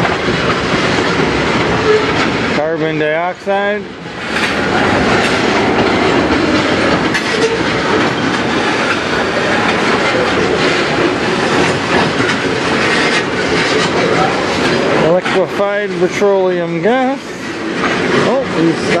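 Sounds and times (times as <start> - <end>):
rumbling rattle of train cars: 0.0 - 19.0
train wheels clacking over rail joints: 0.0 - 19.0.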